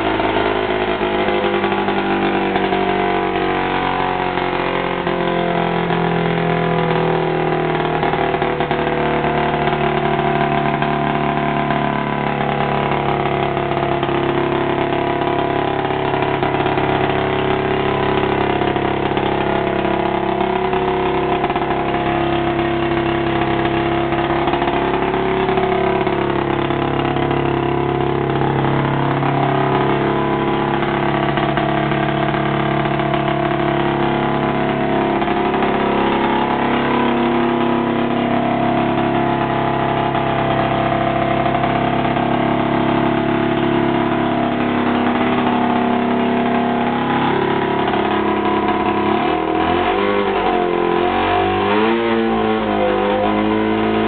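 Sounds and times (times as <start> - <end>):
snowmobile engine idling: 0.0 - 54.0.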